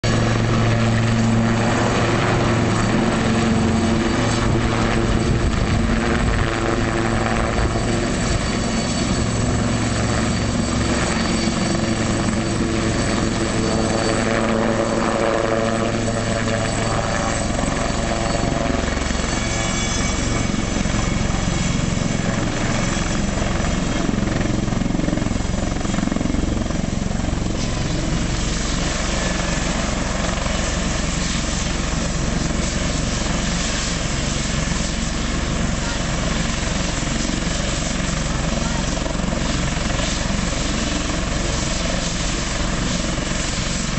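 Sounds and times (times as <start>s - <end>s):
helicopter rotor and engines: 0.0s - 43.9s
high turbine whine: 0.0s - 43.9s.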